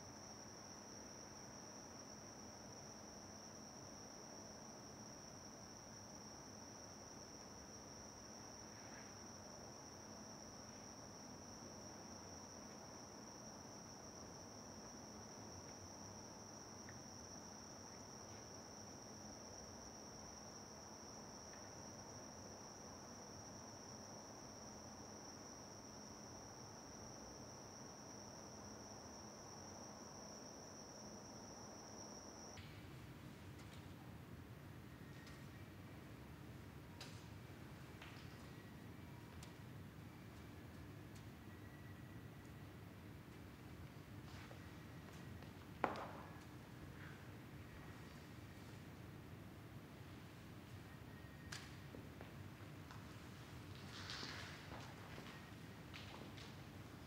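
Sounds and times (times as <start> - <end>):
faint background hiss: 0.0 - 57.0
insects chirring: 0.0 - 57.0.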